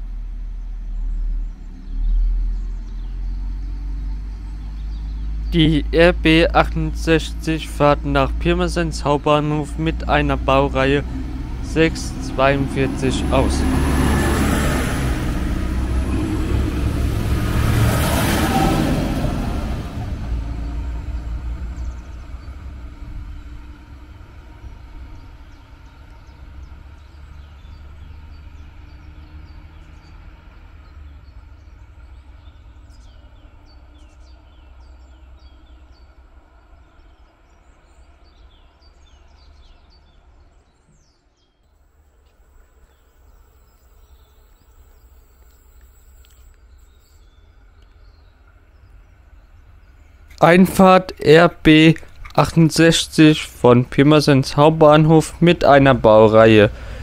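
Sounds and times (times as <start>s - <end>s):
diesel railcar engine and wheel rumble: 0.0s - 40.8s, 41.7s - 57.0s
birds chirping: 0.3s - 57.0s.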